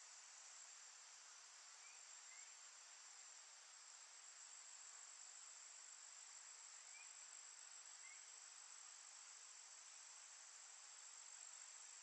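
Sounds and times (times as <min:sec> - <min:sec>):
insect drone: 0:00.0 - 0:12.0
soft hiss: 0:00.0 - 0:12.0.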